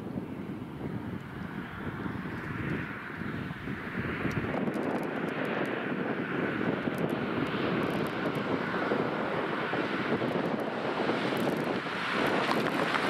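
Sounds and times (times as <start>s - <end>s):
car approaching on road: 0.4s - 13.0s.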